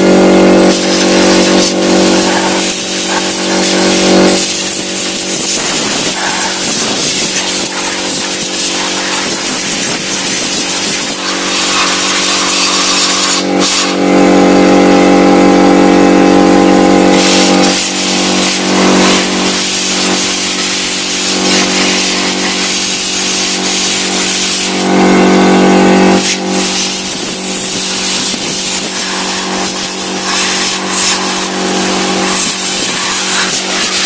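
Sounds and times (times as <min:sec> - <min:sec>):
air compressor running: 0:00.0 - 0:34.0
air gun hissing blasts: 0:00.5 - 0:14.0, 0:17.1 - 0:34.0.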